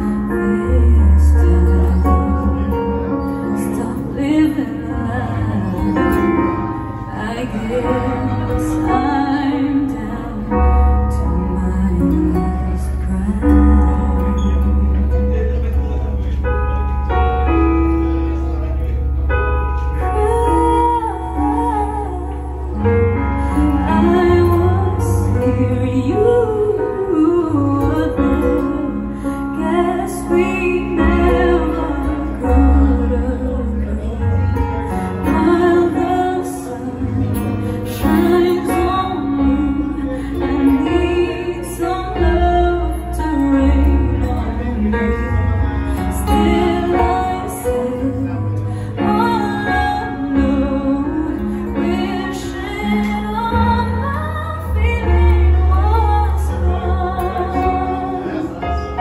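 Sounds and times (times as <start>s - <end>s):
woman singing a ballad: 0.0s - 15.7s, 19.2s - 59.0s
acoustic guitar: 0.0s - 59.0s
keyboard with low bass notes: 0.0s - 59.0s.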